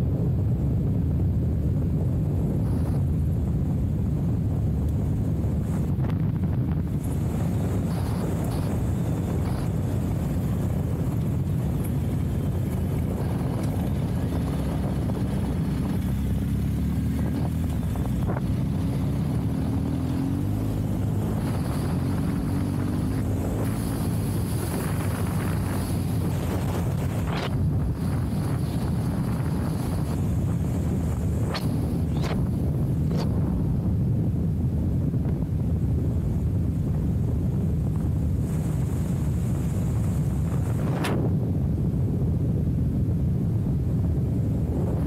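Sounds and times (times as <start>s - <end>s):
motorcycle engine running: 0.0s - 42.6s
wind buffeting microphone: 0.0s - 45.0s.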